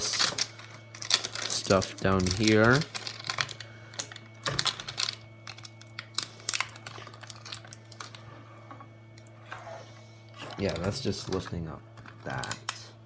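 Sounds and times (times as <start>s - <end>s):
faint crinkle: 0.0s - 12.9s
steady low hum: 0.0s - 13.0s.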